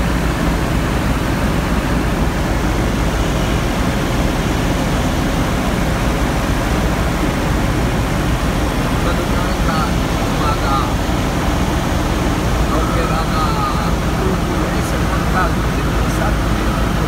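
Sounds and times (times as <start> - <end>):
aircraft engine running: 0.0 - 17.0.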